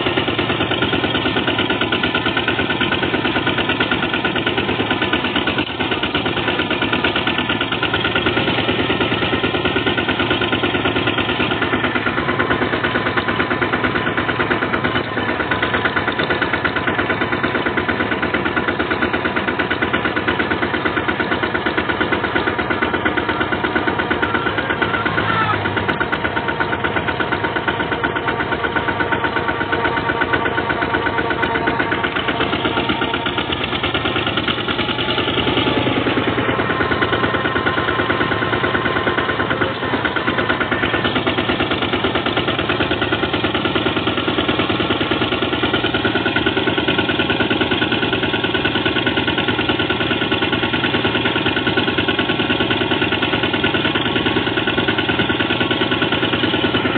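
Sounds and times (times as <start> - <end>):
diesel tractor engine chugging: 0.0 - 56.9.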